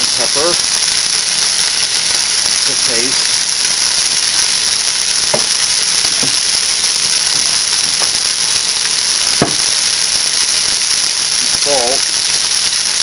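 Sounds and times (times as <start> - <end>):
meat sizzling in hot oil: 0.0 - 13.0
oil popping and crackling: 0.0 - 13.0.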